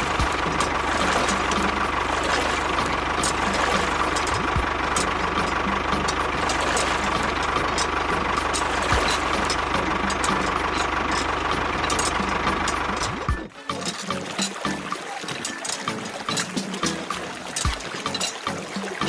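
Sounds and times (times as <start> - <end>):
engine idling with even knock: 0.0 - 19.0.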